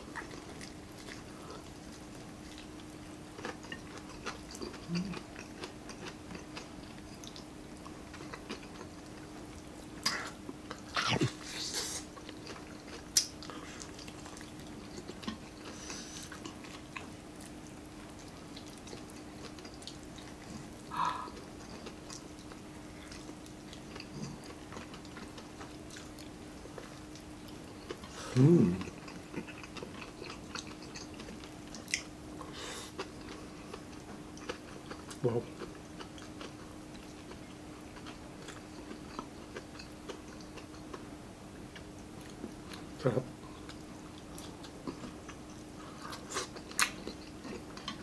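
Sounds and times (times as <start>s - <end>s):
faint steady hum: 0.0s - 48.0s
chewing and lip smacks: 0.1s - 48.0s.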